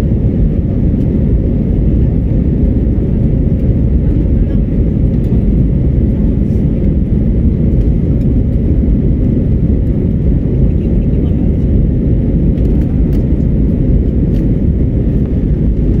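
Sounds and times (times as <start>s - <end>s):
jet engines roaring in cabin: 0.0s - 16.0s.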